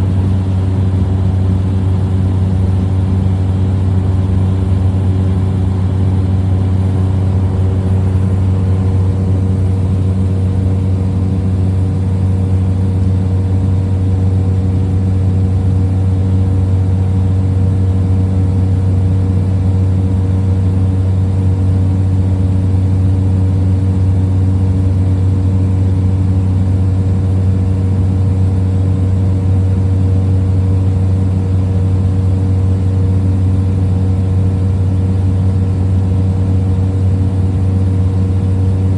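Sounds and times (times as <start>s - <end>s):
small plane engine droning: 0.0s - 38.9s.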